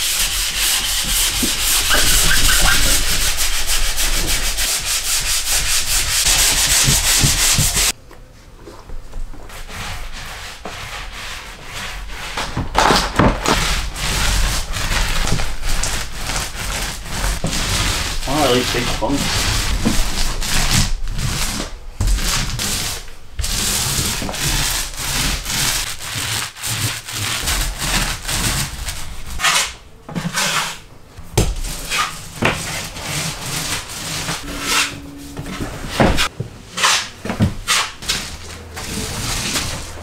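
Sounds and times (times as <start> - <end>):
taping knives scraping drywall: 0.0 - 8.0, 9.5 - 30.8, 31.6 - 35.0, 36.2 - 40.0.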